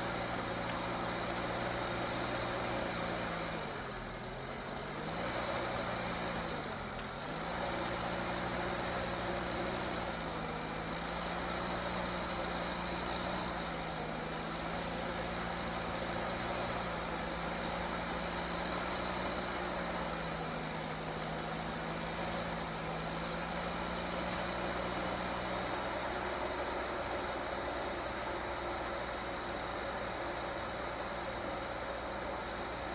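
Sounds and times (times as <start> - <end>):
heavy vehicle engine running: 0.0 - 32.9.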